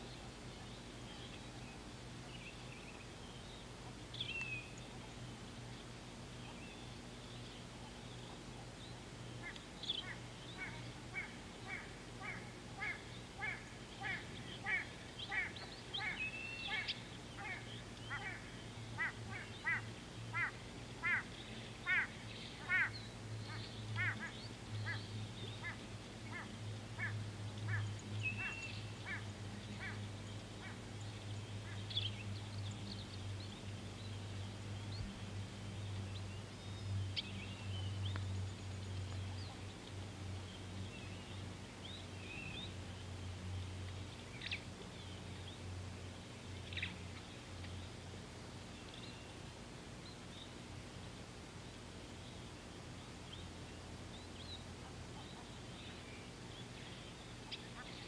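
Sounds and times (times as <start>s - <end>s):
repeated bird calls: 0.0s - 50.6s, 52.2s - 58.0s
low steady hum: 0.0s - 58.0s.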